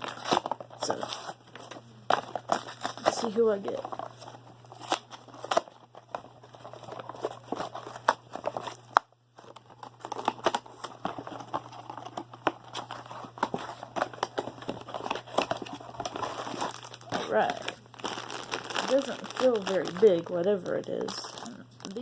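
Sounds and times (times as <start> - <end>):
packaging crinkling and crackling: 0.0 - 22.0.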